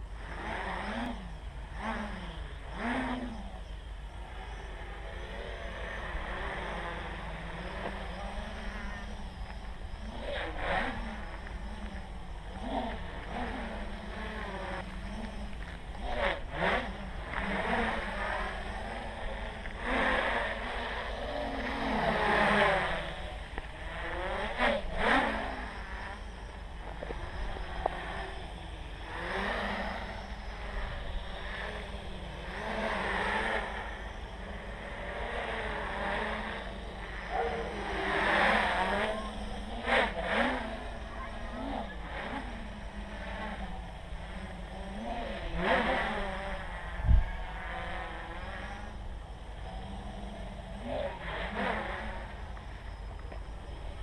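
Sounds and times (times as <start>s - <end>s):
quadcopter motors buzzing: 0.0s - 54.0s.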